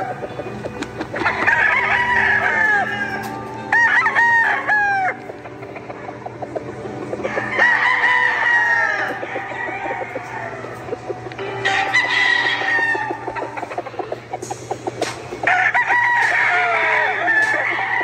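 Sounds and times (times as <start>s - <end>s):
roosters crowing: 0.0s - 18.0s.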